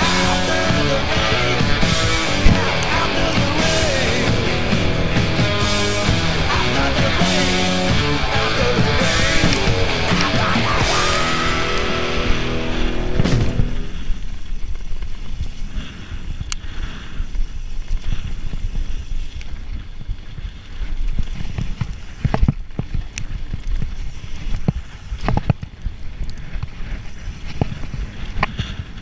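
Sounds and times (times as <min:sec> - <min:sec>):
bike knocking and rattling: 0:00.0 - 0:29.0
bike tyres rolling on dirt: 0:00.0 - 0:29.0
wind rumbling on microphone: 0:00.0 - 0:29.0.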